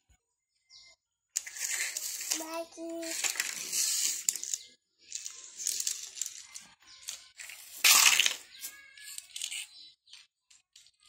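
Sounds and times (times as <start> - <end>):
plastic toys rustling and clicking: 1.4 - 11.0.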